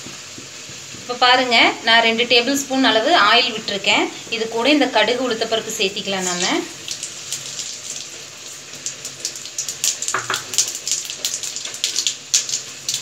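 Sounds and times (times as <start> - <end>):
seeds sizzling in hot oil: 0.0 - 13.0.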